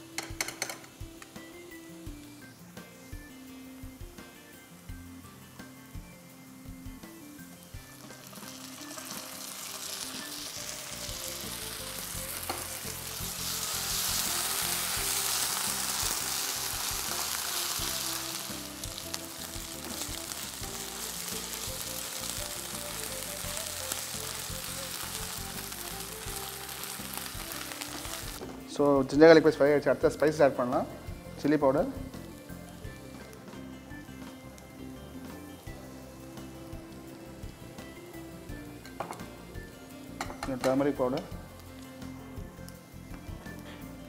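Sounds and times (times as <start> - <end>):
onions sizzling in hot oil: 0.0 - 44.0.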